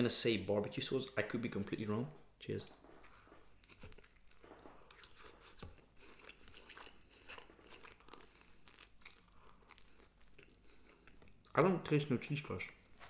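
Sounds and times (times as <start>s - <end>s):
pizza crust crackling: 0.9s - 13.0s
person chewing pizza: 1.5s - 13.0s.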